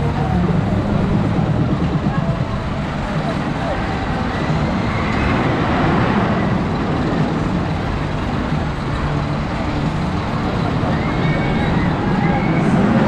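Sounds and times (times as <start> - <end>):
roller coaster rolling on rails: 0.0 - 13.0.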